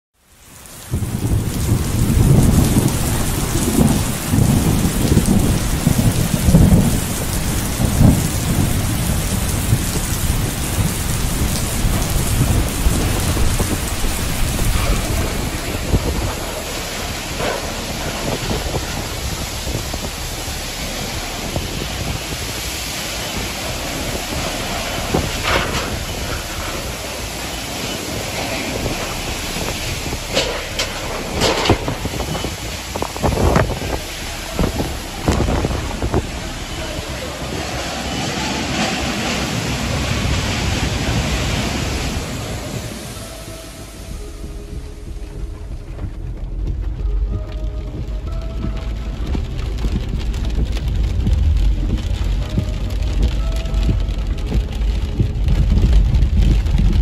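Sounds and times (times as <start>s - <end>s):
heavy rain pouring: 0.2s - 57.0s
strong wind: 0.2s - 57.0s
deep thunder rumbling: 0.4s - 57.0s.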